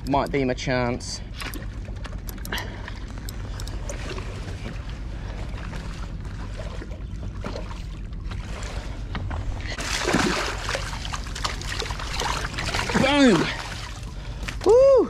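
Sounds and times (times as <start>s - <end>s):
fish thrashing and splashing: 1.4s - 14.7s.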